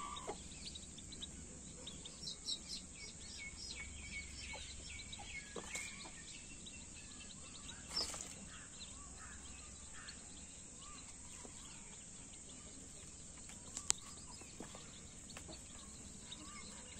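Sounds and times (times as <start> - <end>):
chicks peeping: 0.0 - 16.9.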